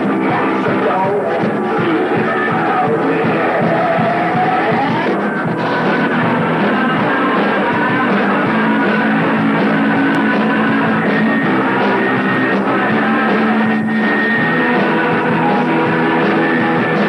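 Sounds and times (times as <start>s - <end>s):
heavy metal band playing: 0.0s - 17.0s.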